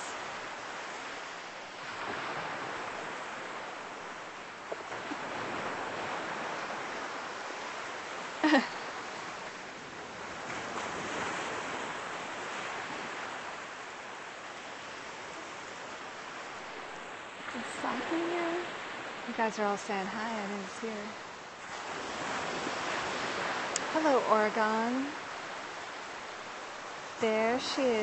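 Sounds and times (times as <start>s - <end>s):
ocean surf washing onto beach: 0.0s - 28.0s.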